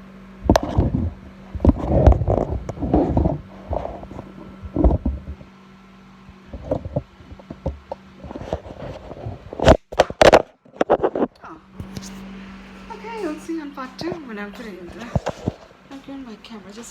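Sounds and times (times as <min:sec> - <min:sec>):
low hum: 0:00.0 - 0:16.9.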